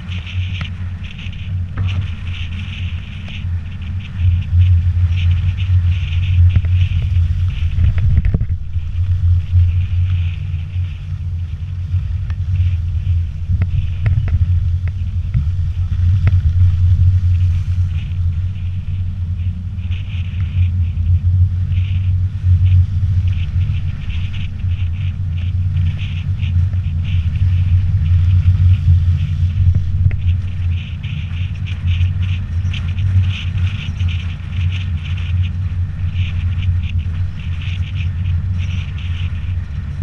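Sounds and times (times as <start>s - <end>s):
light crackling hiss: 0.0s - 40.0s
vehicle rumbling on wet road: 0.0s - 40.0s.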